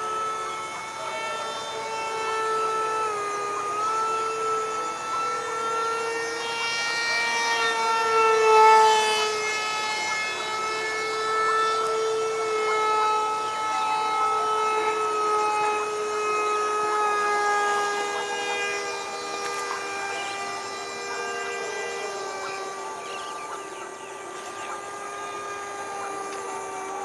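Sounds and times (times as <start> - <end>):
high-pitched mechanical whine: 0.0 - 27.0.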